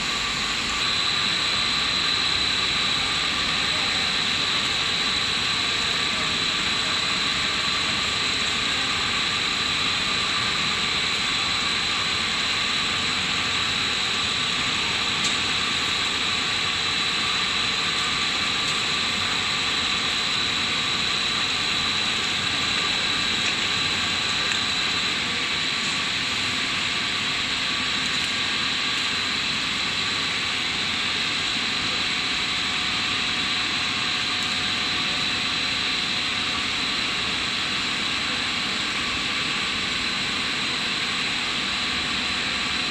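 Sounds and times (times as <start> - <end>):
high-pitched whine: 0.0 - 42.9.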